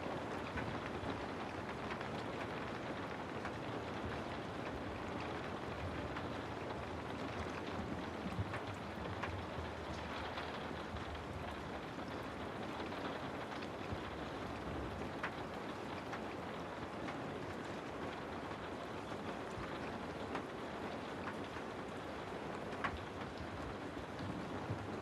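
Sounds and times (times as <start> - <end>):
steady rainfall patter: 0.0 - 25.0.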